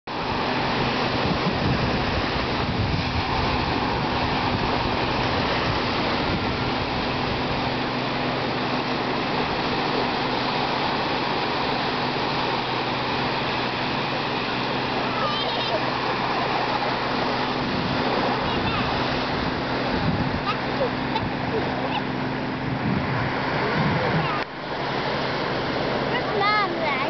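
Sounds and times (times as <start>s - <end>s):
waves washing onto beach: 0.1s - 27.0s.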